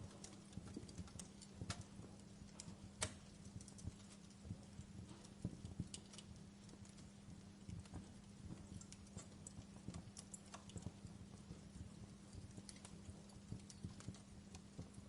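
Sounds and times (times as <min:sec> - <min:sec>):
faint low hum: 0:00.0 - 0:15.0
wood fire crackling: 0:00.0 - 0:15.0.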